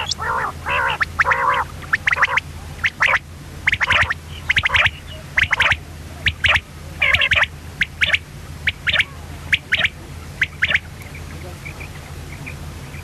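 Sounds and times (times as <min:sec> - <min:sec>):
quail calling: 0:00.0 - 0:13.0.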